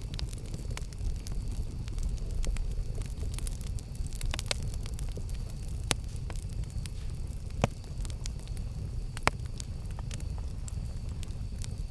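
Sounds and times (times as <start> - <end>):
campfire rumble: 0.0 - 11.9
sharp fire pops: 0.0 - 11.9
wood crackling: 0.0 - 11.9.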